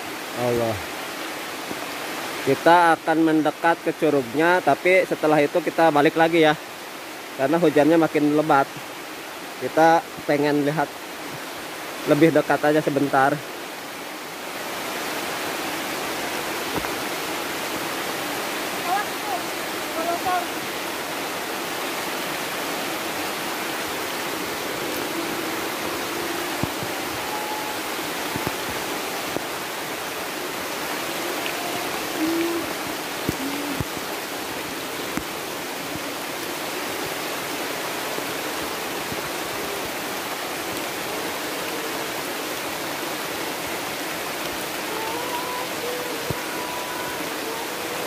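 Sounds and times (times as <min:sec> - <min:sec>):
heavy rain: 0:00.0 - 0:48.0
waterfall rushing: 0:00.0 - 0:48.0.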